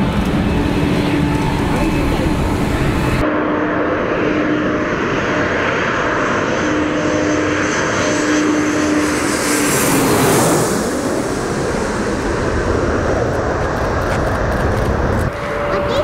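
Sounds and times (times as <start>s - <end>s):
high engine whine: 0.0s - 16.0s
jet airliner flying overhead: 0.0s - 16.0s.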